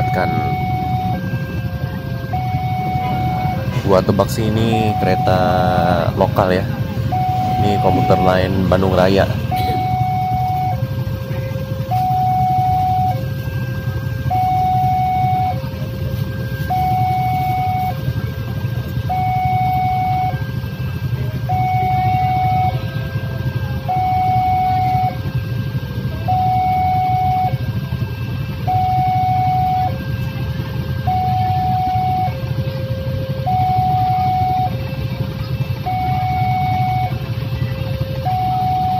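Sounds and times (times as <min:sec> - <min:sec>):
level crossing two-tone alarm: 0:00.0 - 0:38.9
low traffic rumble: 0:00.0 - 0:38.9.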